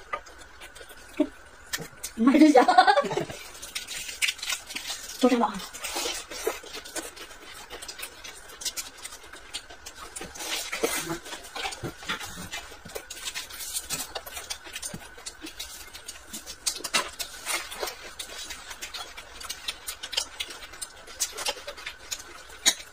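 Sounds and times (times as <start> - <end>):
chewing with wet mouth clicks: 0.0 - 2.2, 3.1 - 22.9.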